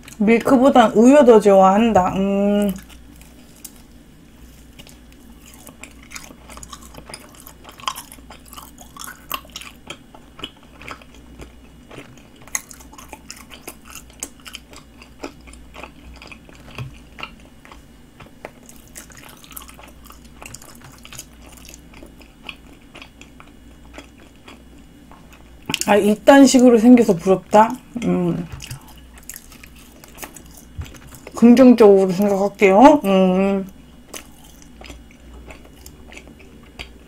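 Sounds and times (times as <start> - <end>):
person chewing crunchy pastry: 2.6 - 25.9, 27.7 - 32.7, 33.7 - 37.0.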